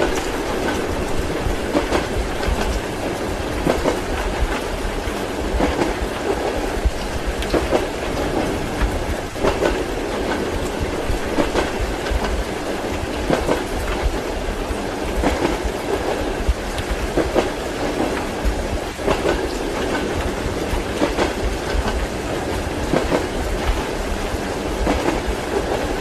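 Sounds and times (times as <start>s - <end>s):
train wheels clacking over joints: 0.0s - 26.0s.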